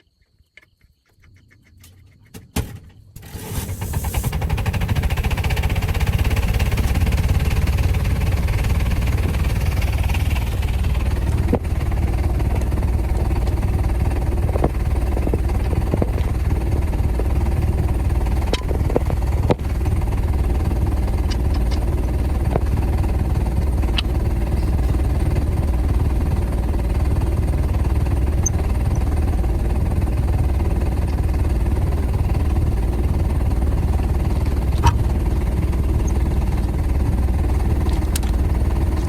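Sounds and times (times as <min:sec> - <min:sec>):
large engine rumbling: 0:03.2 - 0:39.0.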